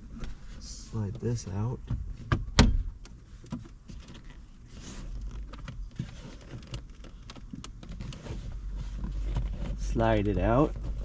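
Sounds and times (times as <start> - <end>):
low steady rumble: 0.0 - 11.0
trim clicks and creaks: 0.1 - 11.0.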